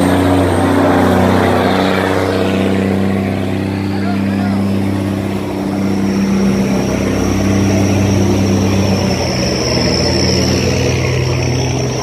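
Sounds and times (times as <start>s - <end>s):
barge diesel engine running: 0.0s - 12.0s.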